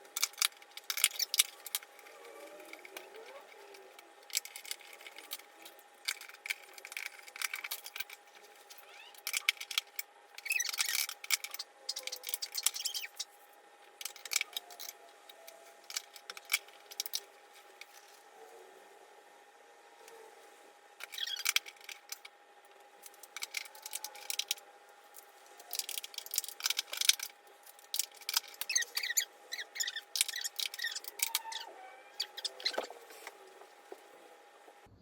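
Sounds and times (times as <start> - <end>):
small metal objects clicking and rattling: 0.0 - 13.4, 14.0 - 18.1, 21.0 - 22.3, 23.0 - 33.4.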